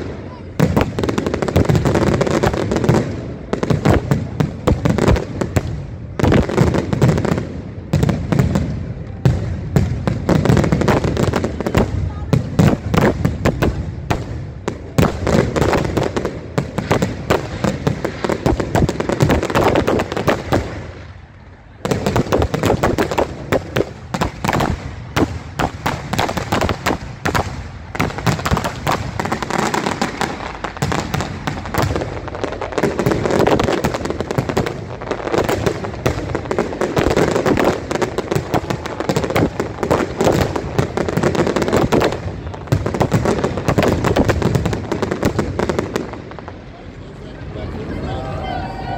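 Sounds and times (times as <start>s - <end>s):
fireworks bursting and crackling: 0.0s - 48.9s.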